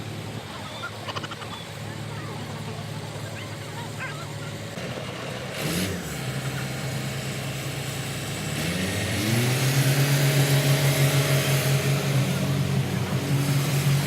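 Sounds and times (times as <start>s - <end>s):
motor vehicle engine running: 0.0s - 14.0s.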